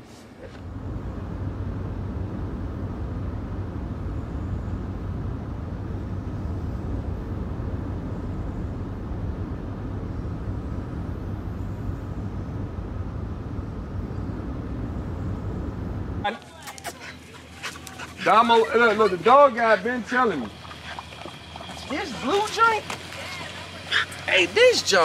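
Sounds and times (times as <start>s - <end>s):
car engine rumble: 0.0s - 25.0s
road noise: 0.0s - 25.0s.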